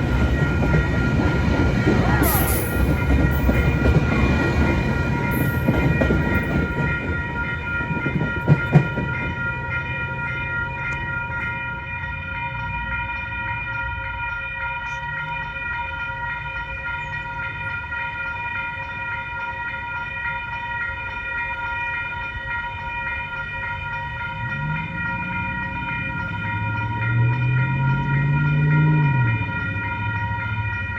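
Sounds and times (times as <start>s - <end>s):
train whine over low rumble: 0.0s - 30.9s.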